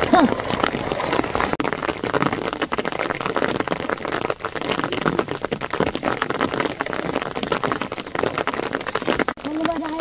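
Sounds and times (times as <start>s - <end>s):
rain pattering hard: 0.0s - 10.0s.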